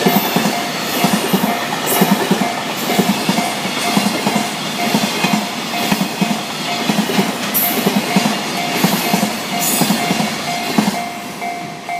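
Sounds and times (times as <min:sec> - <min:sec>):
freight train wheels clattering: 0:00.0 - 0:11.9
level-crossing bell clanging: 0:00.0 - 0:11.9.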